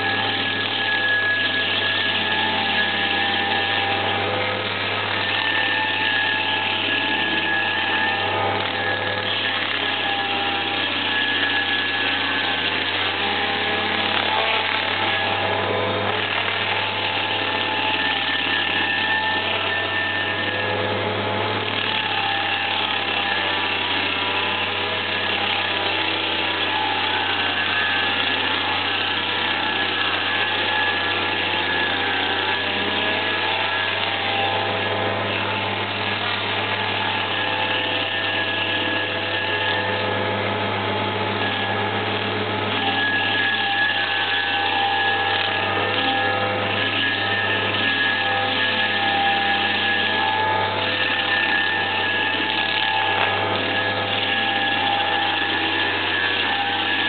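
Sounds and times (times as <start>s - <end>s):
cutter wheel grinding wood: 0.0s - 57.0s.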